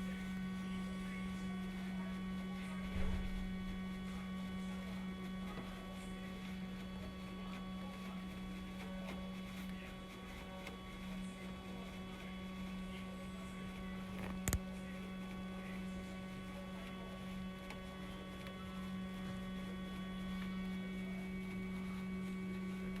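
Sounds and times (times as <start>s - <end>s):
air conditioner motor humming: 0.0s - 23.0s.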